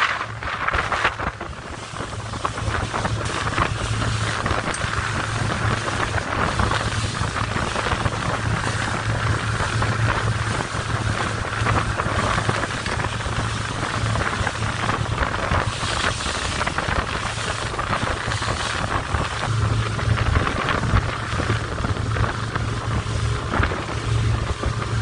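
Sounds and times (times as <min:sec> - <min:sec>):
boat engine drone: 0:00.0 - 0:25.0
water spray rushing: 0:00.0 - 0:25.0
wind buffeting microphone: 0:00.0 - 0:25.0.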